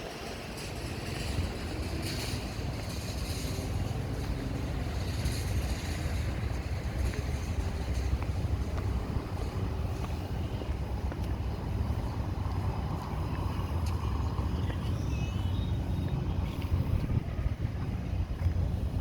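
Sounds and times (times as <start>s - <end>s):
vehicles passing with low rumble: 0.0s - 19.0s.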